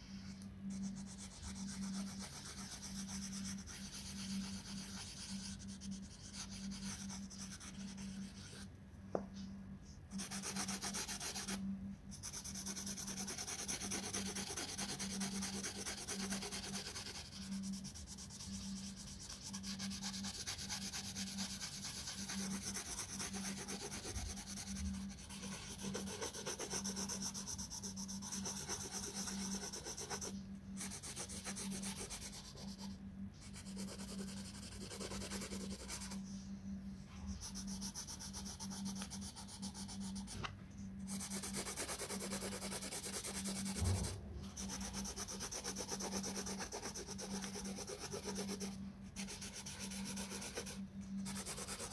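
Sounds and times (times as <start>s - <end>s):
crayon scribbling on paper: 0.7s - 8.6s, 10.1s - 11.6s, 12.2s - 36.2s, 37.3s - 40.4s, 41.0s - 51.9s.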